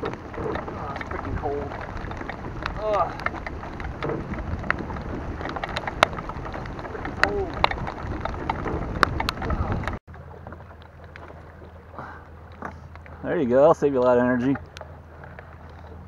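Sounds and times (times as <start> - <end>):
rain pattering on canoe: 0.0 - 16.0.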